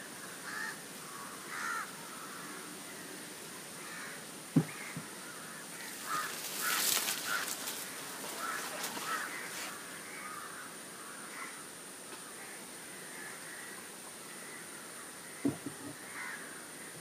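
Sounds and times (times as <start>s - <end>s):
birds calling: 0.0s - 11.6s, 12.2s - 17.0s.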